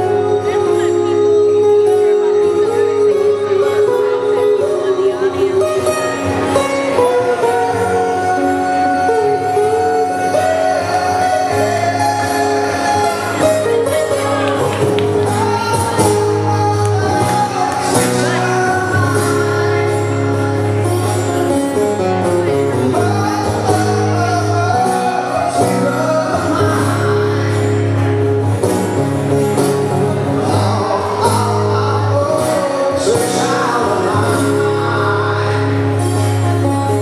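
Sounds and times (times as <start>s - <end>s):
acoustic guitars playing: 0.0s - 37.0s
person singing: 0.0s - 37.0s.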